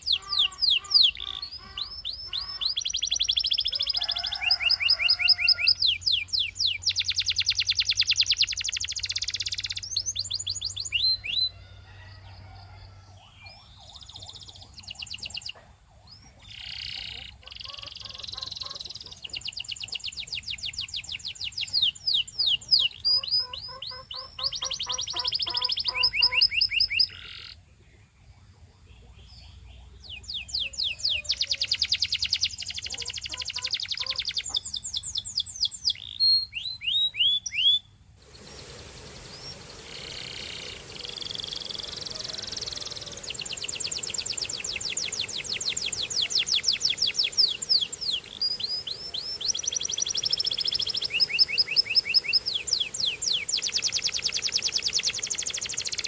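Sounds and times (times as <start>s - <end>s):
canary singing: 0.0s - 12.1s, 13.1s - 27.6s, 29.0s - 38.0s, 39.1s - 56.0s.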